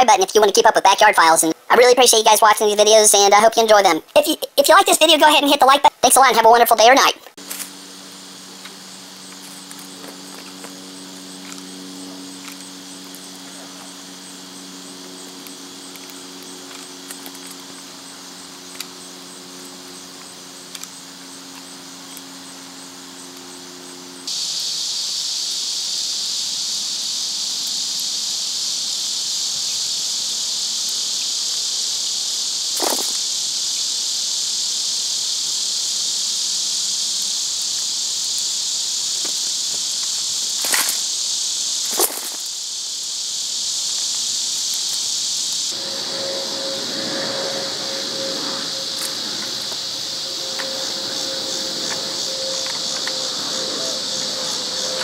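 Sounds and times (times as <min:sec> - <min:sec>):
insects buzzing: 0:00.0 - 0:55.0.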